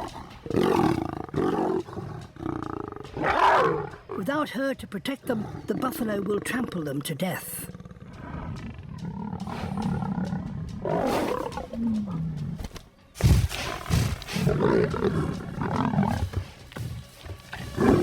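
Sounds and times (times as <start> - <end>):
lioness snarling and roaring: 0.0 - 4.2, 7.7 - 18.0.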